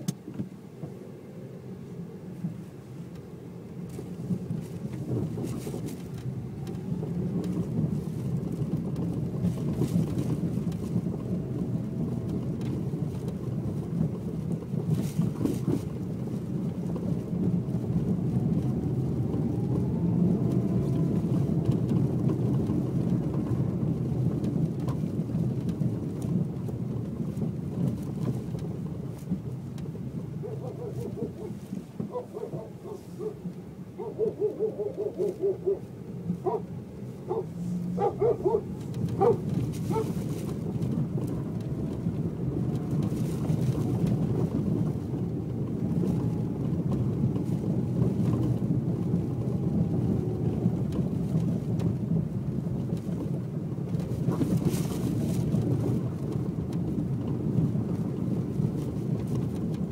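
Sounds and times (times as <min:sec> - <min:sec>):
car road and tyre rumble: 0:00.0 - 0:59.9.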